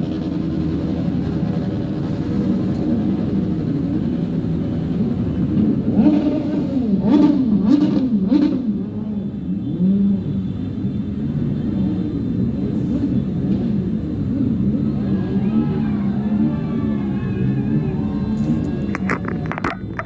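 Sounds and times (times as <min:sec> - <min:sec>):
motorbike engines revving: 0:00.0 - 0:20.0.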